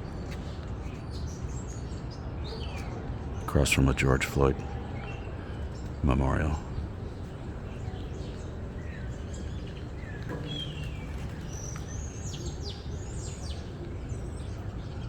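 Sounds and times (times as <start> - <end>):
birds chirping: 0.0 - 15.0
low street rumble: 0.0 - 15.0.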